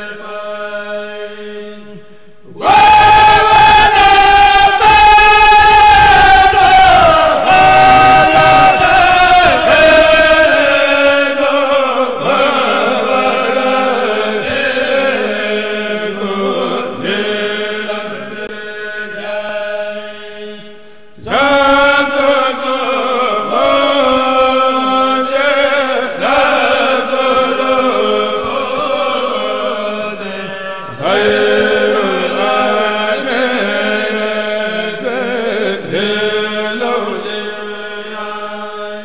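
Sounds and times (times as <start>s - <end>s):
men chanting together: 2.5s - 39.0s.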